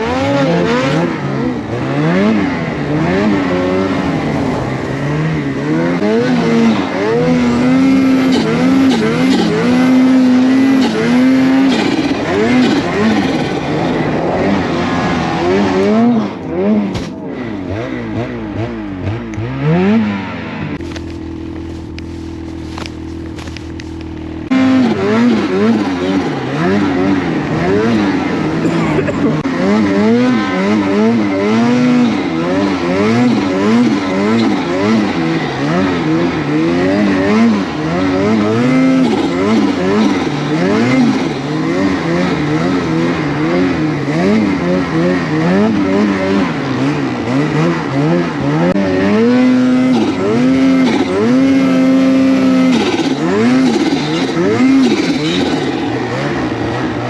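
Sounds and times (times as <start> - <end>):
engine revving up and down: 0.0 - 21.8, 22.7 - 57.0
steady engine tone: 0.0 - 57.0.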